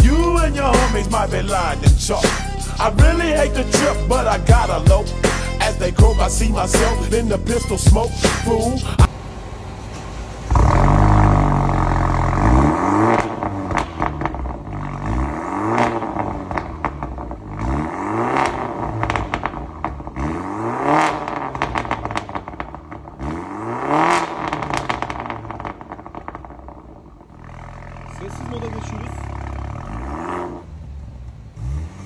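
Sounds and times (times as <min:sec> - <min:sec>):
car engine rumbling and revving: 0:00.0 - 0:32.0
exhaust crackles: 0:00.0 - 0:32.0.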